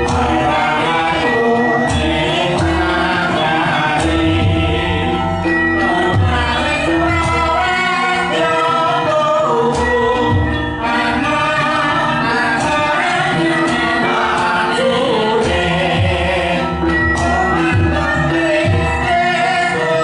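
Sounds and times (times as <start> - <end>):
metallophones ringing: 0.0 - 20.0
person singing: 0.0 - 20.0.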